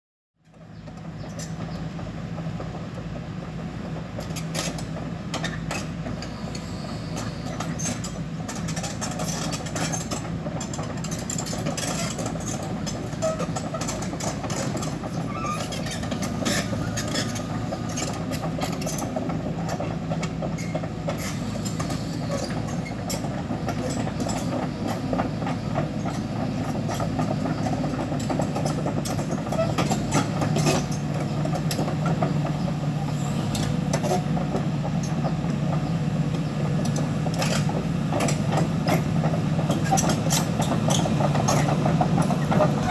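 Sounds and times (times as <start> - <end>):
excavator diesel engine running: 0.5 - 42.9.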